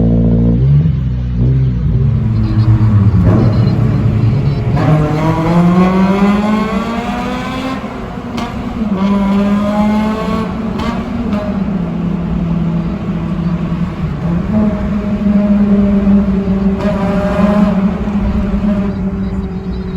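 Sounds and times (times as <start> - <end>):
car exhaust accelerating hard: 0.0 - 19.9.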